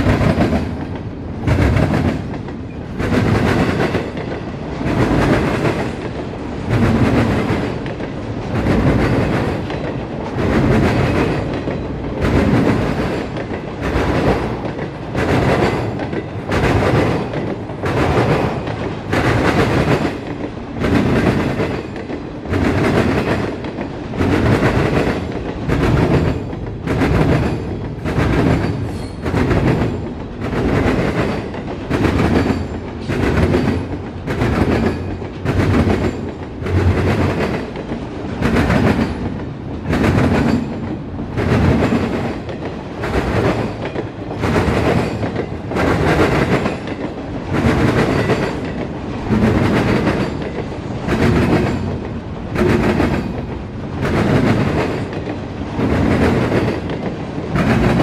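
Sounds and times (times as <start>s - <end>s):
train wheels clattering over joints: 0.0s - 58.0s.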